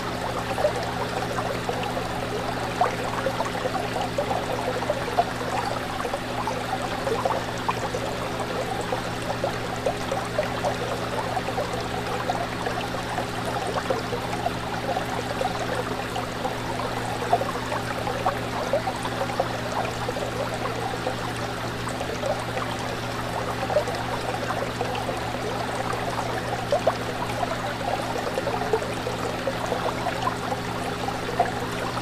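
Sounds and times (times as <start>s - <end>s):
fish tank water bubbling: 0.0s - 32.0s.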